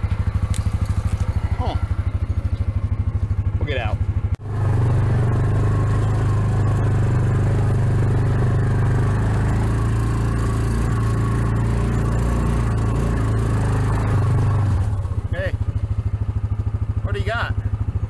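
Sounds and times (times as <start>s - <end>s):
vehicle engine low drone: 0.0s - 18.0s.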